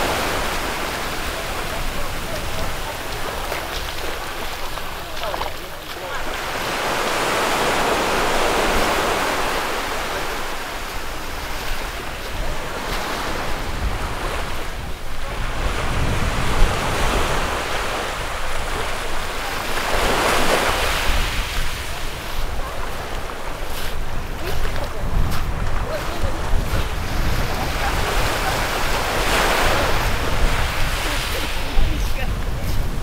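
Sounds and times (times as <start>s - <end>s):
wind buffeting microphone: 0.0s - 9.6s, 10.5s - 33.0s
surf washing up on beach: 0.0s - 33.0s.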